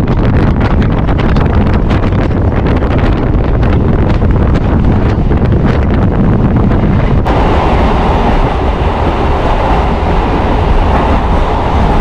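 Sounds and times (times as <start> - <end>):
train running on track: 0.0 - 12.0
wind rushing over microphone: 0.0 - 12.0.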